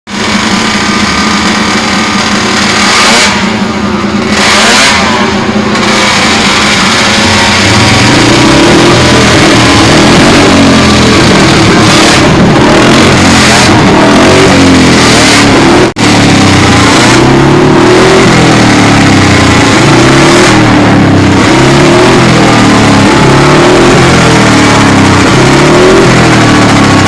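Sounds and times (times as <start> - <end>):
racing engine revving: 0.1 - 27.0.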